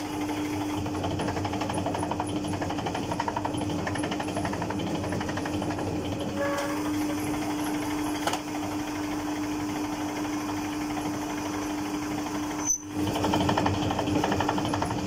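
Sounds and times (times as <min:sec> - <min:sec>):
dough roller machine humming: 0:00.0 - 0:15.0.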